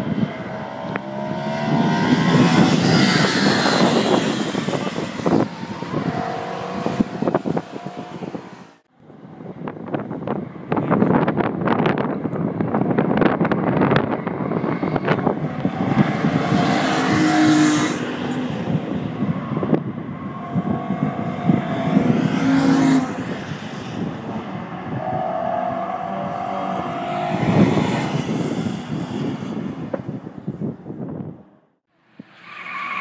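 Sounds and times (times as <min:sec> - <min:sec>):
wind buffeting microphone: 0:00.0 - 0:32.4
race cars passing at speed: 0:00.0 - 0:33.0.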